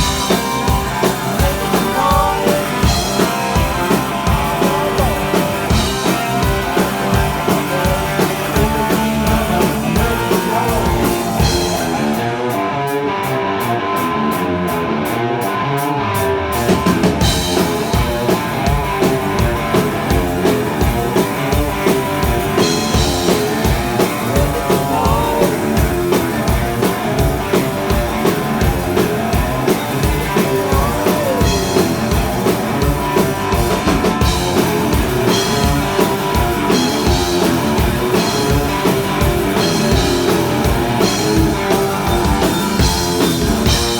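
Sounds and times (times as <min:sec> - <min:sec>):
drum kit beat: 0:00.0 - 0:12.6, 0:16.5 - 0:43.9
electric guitar: 0:00.0 - 0:43.9.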